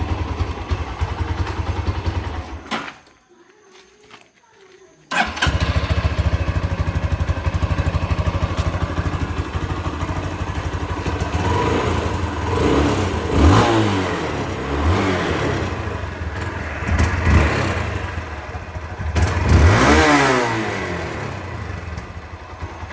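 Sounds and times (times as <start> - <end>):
motorcycle engine idling and revving: 0.0 - 2.8, 5.1 - 22.9.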